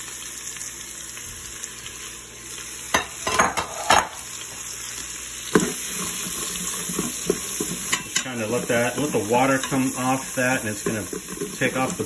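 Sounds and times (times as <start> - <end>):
vegetables sizzling in butter: 0.0 - 12.0.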